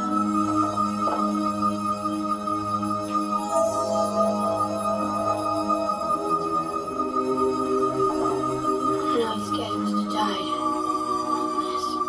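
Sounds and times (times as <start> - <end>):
soft film score from television: 0.0 - 12.0.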